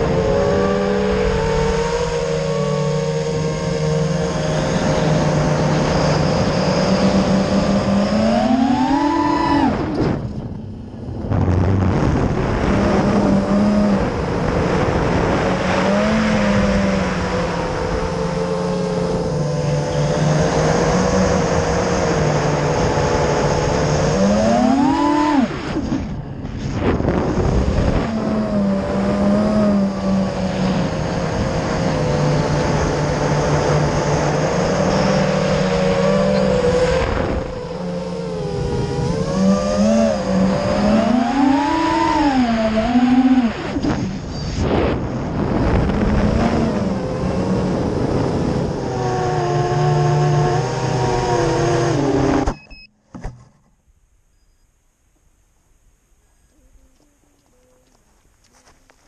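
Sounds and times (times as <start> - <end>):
wind on microphone: 0.0 - 52.4
drone motors humming: 0.0 - 53.2.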